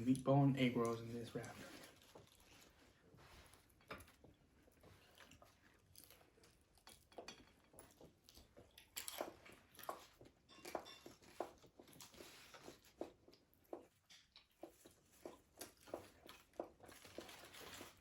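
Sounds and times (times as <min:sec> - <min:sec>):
clicks and crinkles of food handling: 0:00.0 - 0:18.0.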